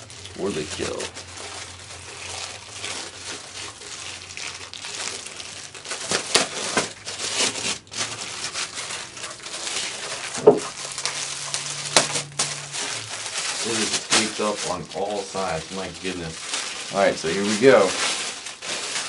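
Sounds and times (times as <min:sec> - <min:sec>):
foam wrap and plastic rustling: 0:00.0 - 0:19.0.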